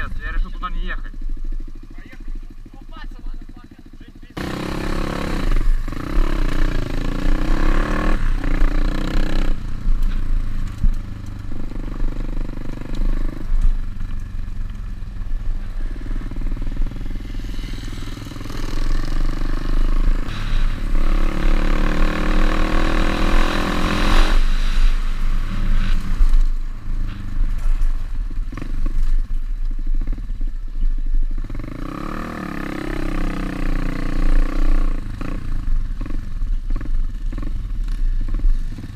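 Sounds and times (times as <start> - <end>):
motorbike engine revving: 0.0 - 14.5, 15.3 - 29.3, 31.4 - 38.9.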